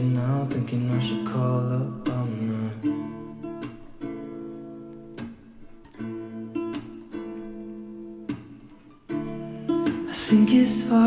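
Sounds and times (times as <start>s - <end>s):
strummed guitar chords: 0.0s - 11.0s.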